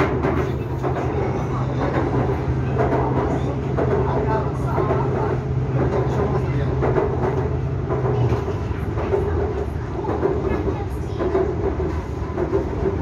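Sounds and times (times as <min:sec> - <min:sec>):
train carriage running noise: 0:00.0 - 0:13.0.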